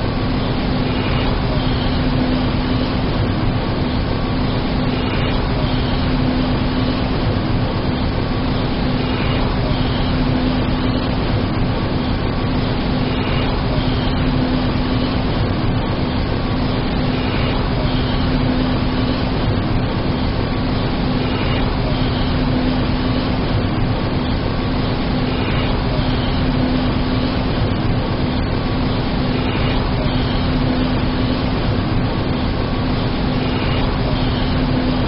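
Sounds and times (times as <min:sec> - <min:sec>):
electric arc furnace din: 0:00.0 - 0:35.0
low hum: 0:00.0 - 0:35.0.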